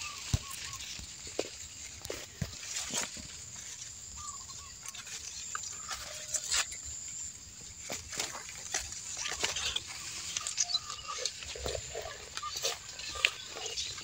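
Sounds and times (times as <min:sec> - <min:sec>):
leaves and stalks rustling: 0:00.0 - 0:14.0.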